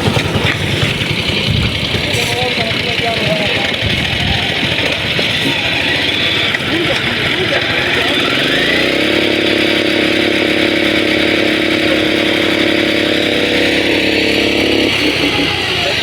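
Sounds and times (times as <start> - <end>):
machinery engine revving: 0.0 - 16.0.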